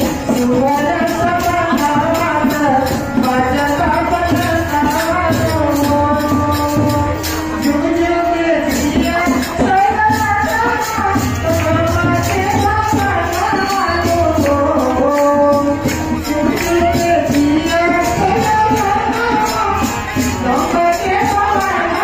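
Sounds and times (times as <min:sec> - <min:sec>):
steady percussion beat: 0:00.0 - 0:22.0.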